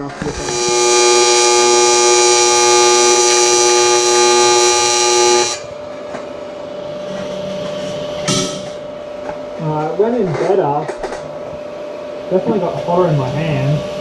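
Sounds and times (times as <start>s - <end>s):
welding arc buzzing: 0.0s - 14.0s
faint steady hum: 0.1s - 14.0s.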